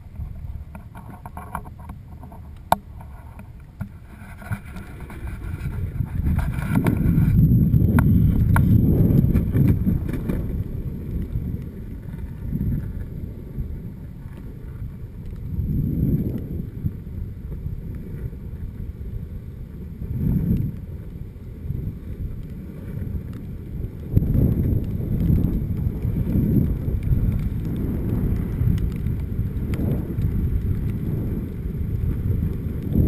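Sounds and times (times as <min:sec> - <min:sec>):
skateboard wheels rolling on asphalt: 0:00.0 - 0:33.0
wind buffeting microphone: 0:00.0 - 0:33.0
skateboard wheel clicks: 0:00.1 - 0:33.0.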